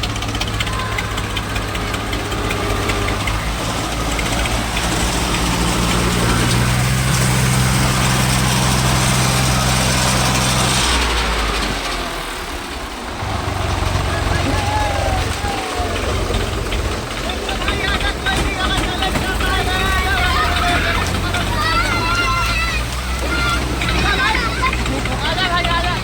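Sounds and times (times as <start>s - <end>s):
tractor diesel engines under load: 0.0s - 26.0s.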